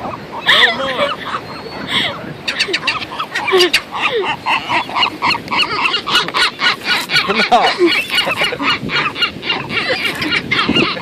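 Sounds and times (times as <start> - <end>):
seagulls squawking: 0.0 - 11.0.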